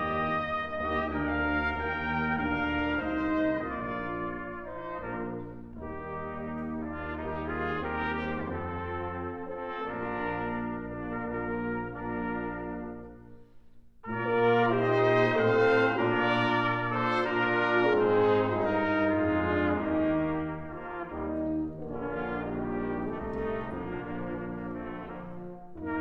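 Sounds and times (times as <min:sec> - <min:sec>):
brass quintet playing chamber music: 0:00.0 - 0:26.0.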